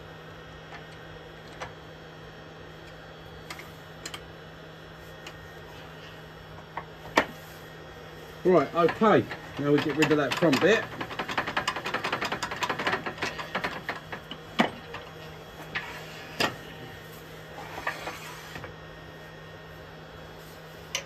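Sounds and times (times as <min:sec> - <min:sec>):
lathe motor hum: 0:02.5 - 0:21.0.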